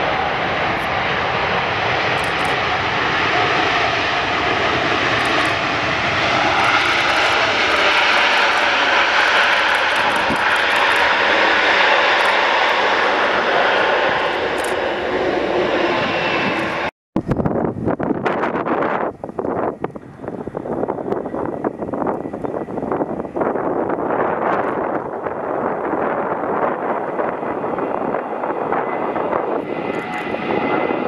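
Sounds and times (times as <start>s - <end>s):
jet engines rushing: 0.0s - 31.0s.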